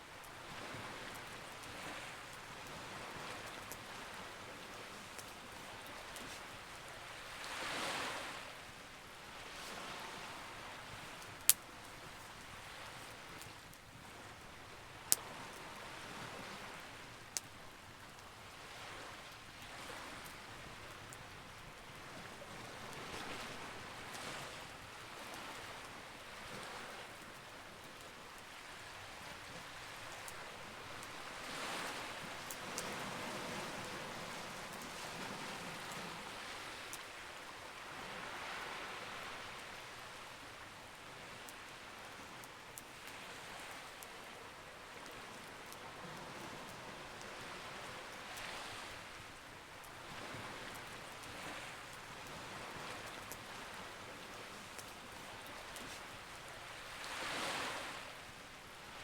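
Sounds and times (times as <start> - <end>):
campfire crackling: 0.0 - 38.2, 39.2 - 59.0.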